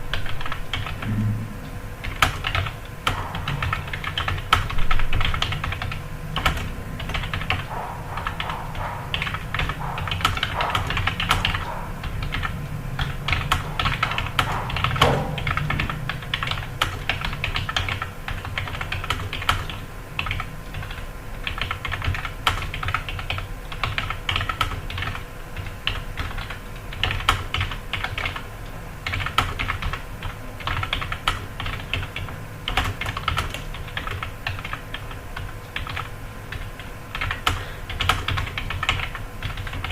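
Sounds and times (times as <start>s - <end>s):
fast keyboard typing: 0.0s - 1.4s, 2.0s - 39.9s.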